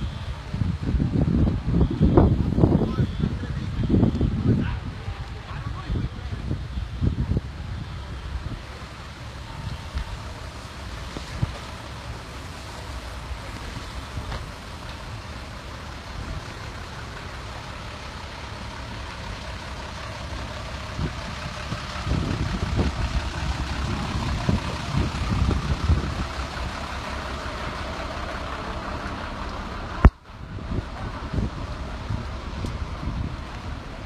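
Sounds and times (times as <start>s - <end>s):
wind buffeting microphone: 0.0s - 15.3s, 19.5s - 34.0s
steady outdoor rush: 0.0s - 34.0s.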